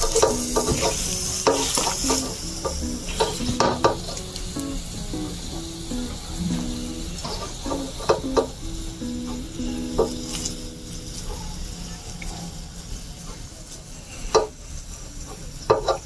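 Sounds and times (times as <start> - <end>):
soft background melody: 0.0 - 13.2
hot oil sizzling: 0.0 - 16.0.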